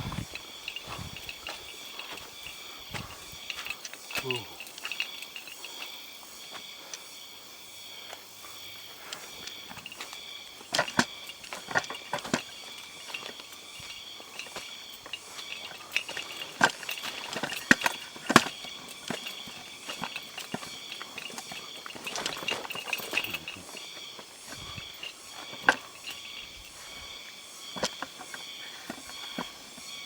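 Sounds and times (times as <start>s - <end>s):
footsteps crunching on forest litter: 0.0s - 7.2s, 8.1s - 30.0s
high-pitched insect drone: 0.0s - 30.0s.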